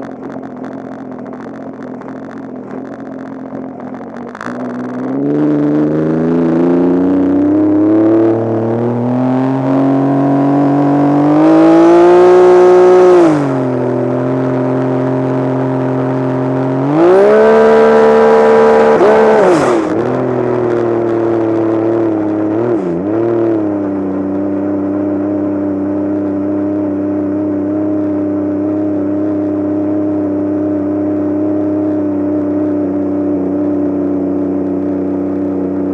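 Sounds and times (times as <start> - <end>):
vehicle engine revving: 0.0 - 35.9.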